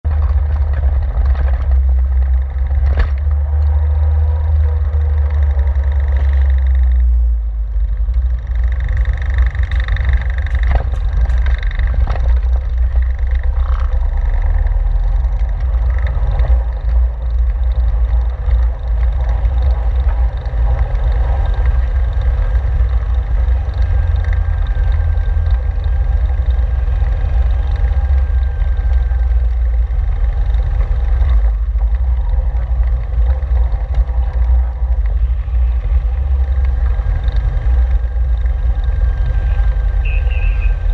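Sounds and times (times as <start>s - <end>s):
car engine low rumble: 0.0s - 40.9s.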